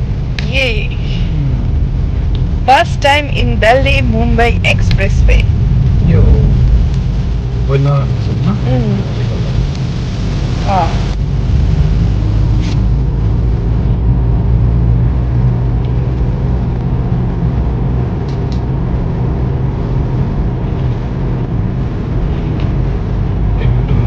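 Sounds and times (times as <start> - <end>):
road and engine rumble: 0.0 - 24.0.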